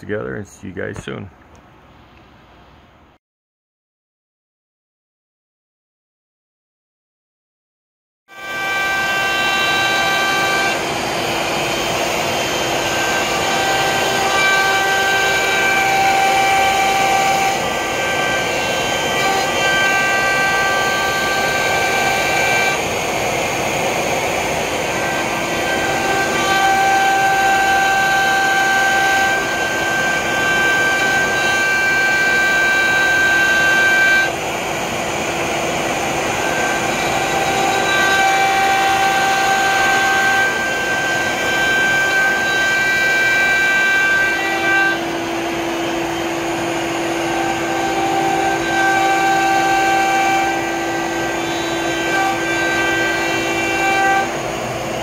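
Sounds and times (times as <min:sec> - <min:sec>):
machine whining tones: 0:08.3 - 0:55.0
router spindle running: 0:08.3 - 0:55.0.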